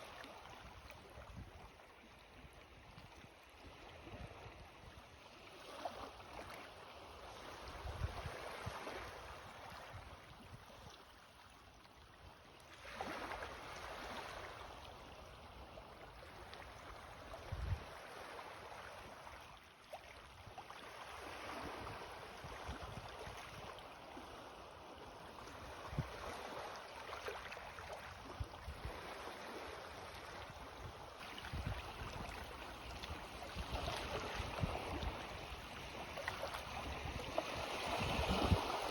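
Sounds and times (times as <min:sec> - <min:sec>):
small waves lapping at shore: 0:00.0 - 0:38.9.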